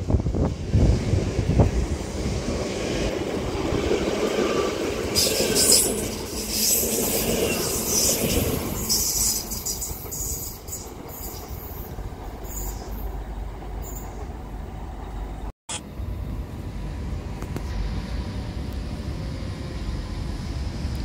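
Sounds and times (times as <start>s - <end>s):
distant train approaching: 0.0s - 21.0s
electric train rumbling: 0.0s - 21.0s.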